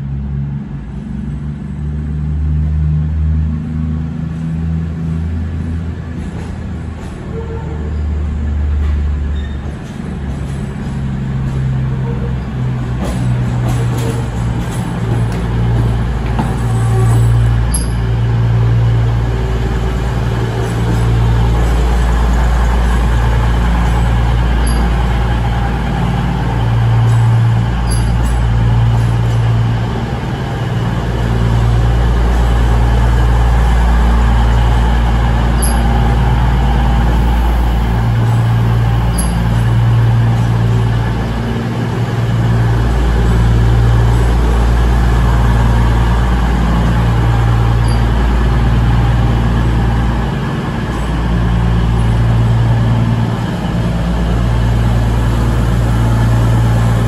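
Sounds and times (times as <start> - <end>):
train diesel engines droning: 0.0 - 57.0.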